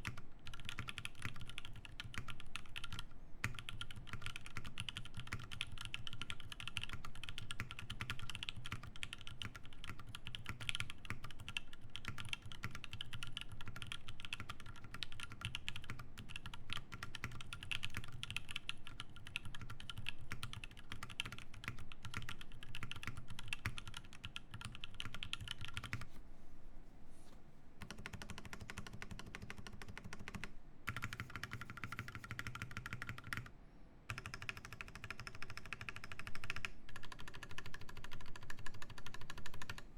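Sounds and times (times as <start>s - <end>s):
soft keyboard keystroke clacks: 0.0s - 26.2s, 27.3s - 33.5s, 34.1s - 39.9s.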